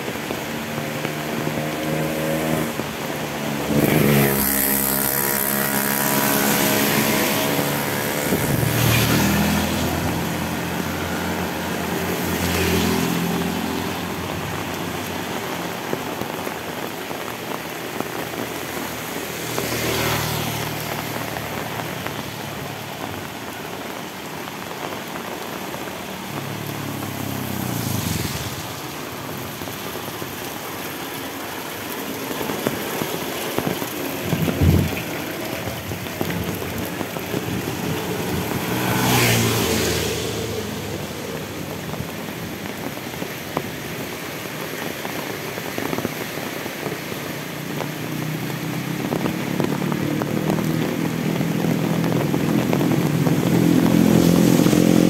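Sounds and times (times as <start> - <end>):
heavy rain: 0.0 - 55.0
vehicles passing on wet road: 0.0 - 55.0.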